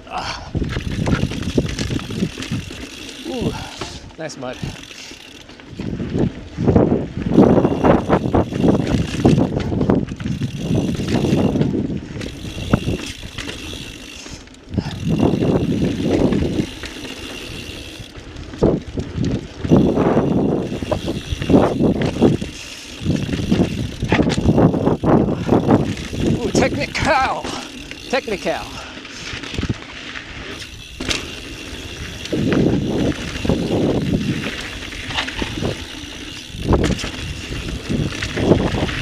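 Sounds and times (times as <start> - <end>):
bike rattling and knocking: 0.2 - 39.0
tyres rolling over dirt: 0.6 - 39.0.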